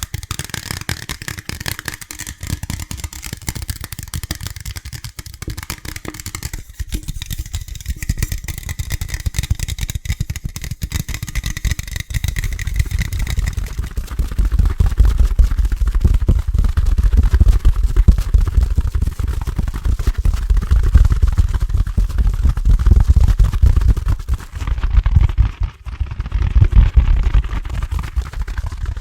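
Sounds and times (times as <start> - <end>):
fast finger tapping: 0.0 - 29.0.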